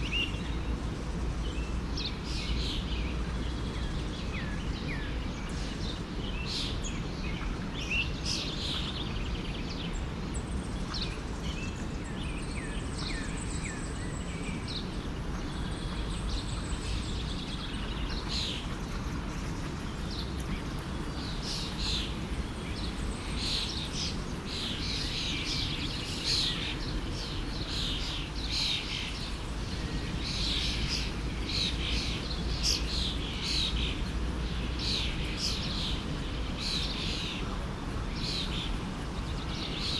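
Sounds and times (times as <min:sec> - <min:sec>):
forest stream rushing: 0:00.0 - 0:39.9
songbirds chirping: 0:00.0 - 0:39.9.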